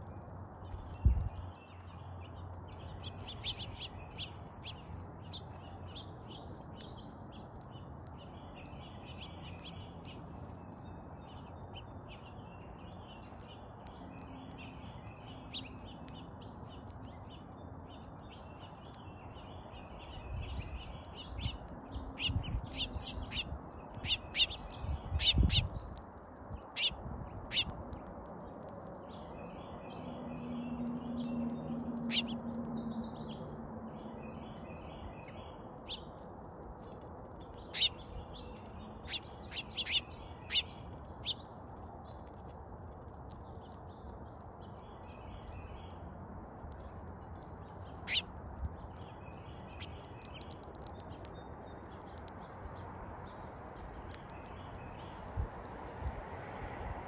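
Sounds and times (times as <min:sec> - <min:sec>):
beaks pecking seed: 0:00.0 - 0:57.0
songbirds chirping: 0:00.0 - 0:57.0.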